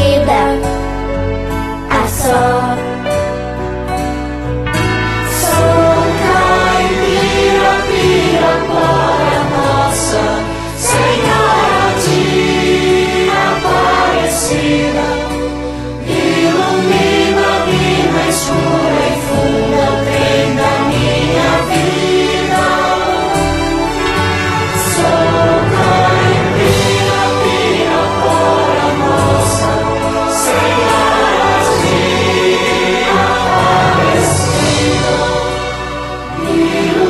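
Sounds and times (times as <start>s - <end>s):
choir singing with instruments: 0.0s - 1.0s, 1.6s - 37.0s.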